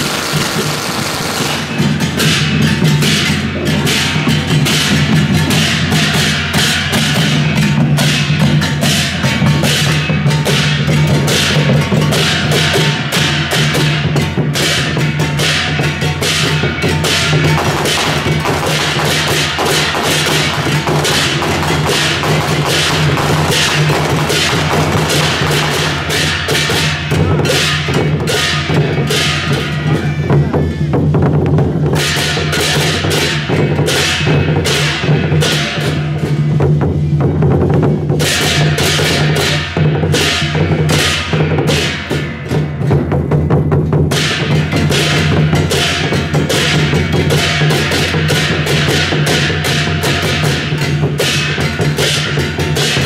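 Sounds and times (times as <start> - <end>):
cymbal crashes: 0.0 - 53.0
drums: 0.0 - 53.0.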